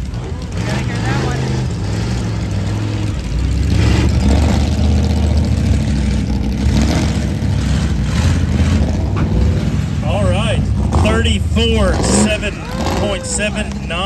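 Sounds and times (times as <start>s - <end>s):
big truck engine droning: 0.0s - 14.0s.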